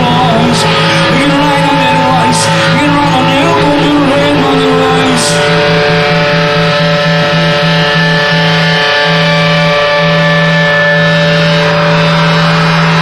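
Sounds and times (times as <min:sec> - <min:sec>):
pulsing low note: 0:00.0 - 0:13.0
rock band sustained drone: 0:00.0 - 0:13.0.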